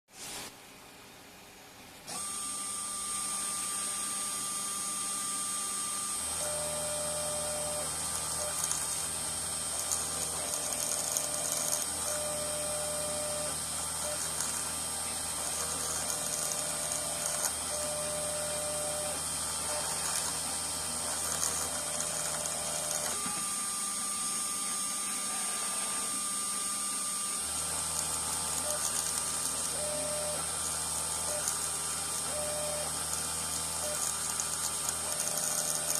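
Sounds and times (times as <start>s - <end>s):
milling spindle whining: 2.3s - 35.9s
stepper motors humming: 3.3s - 35.9s.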